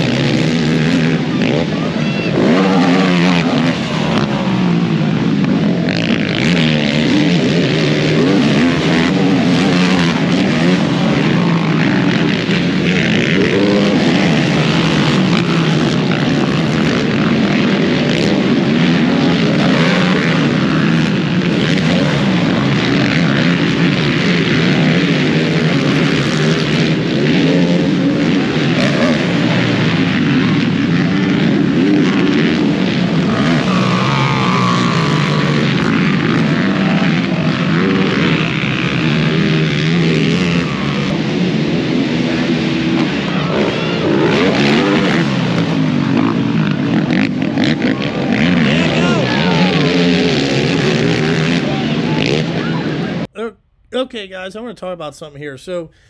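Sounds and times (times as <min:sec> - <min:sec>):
atv engines revving: 0:00.0 - 0:56.0.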